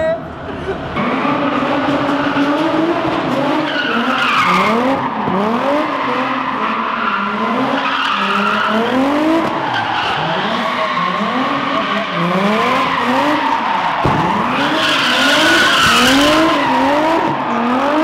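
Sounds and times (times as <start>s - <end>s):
car engine revving hard: 1.0s - 18.0s.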